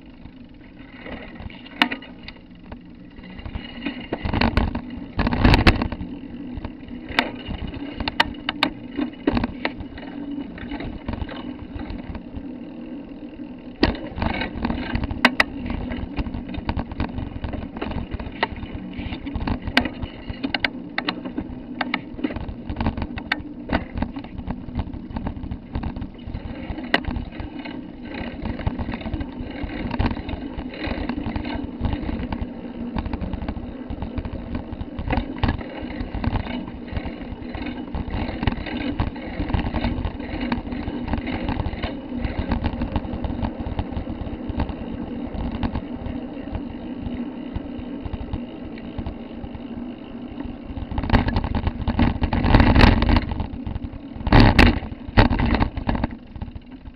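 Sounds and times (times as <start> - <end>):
camera rattling: 0.0 - 56.9
steady low hum: 0.0 - 56.9.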